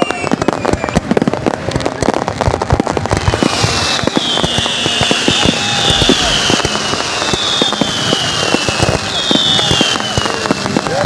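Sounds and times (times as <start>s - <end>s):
fireworks whistles falling in pitch: 0.0s - 1.3s, 3.0s - 11.0s
fireworks crackling and bangs: 0.0s - 11.0s.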